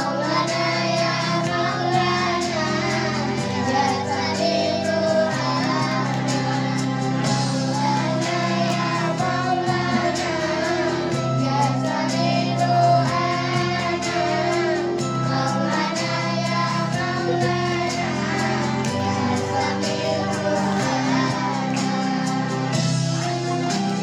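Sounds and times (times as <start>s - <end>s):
girls singing through microphones: 0.0s - 24.0s
music with held chords and beat: 0.0s - 24.0s.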